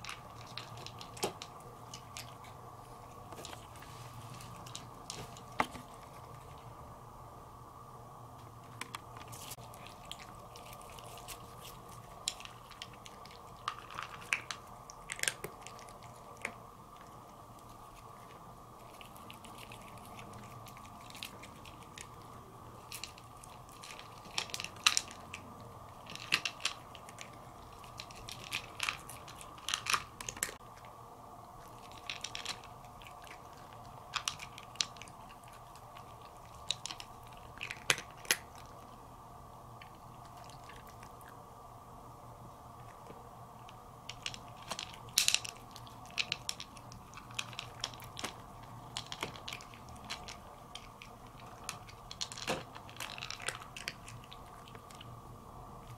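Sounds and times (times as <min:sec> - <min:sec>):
cat crunching dry kibble: 0:00.0 - 0:06.8, 0:08.5 - 0:39.1, 0:39.7 - 0:41.4, 0:42.8 - 0:55.9.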